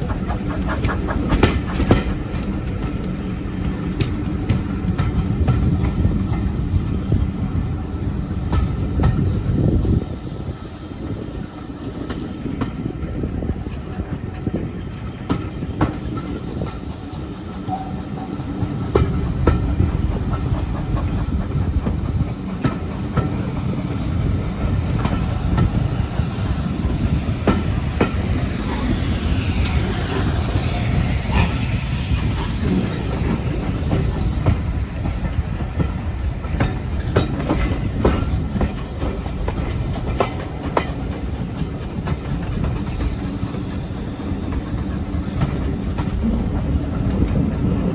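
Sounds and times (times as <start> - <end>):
wheels clicking over rail joints: 0.0 - 7.7, 14.4 - 47.9
hissing rush: 0.0 - 47.9
train rumble: 0.0 - 47.9.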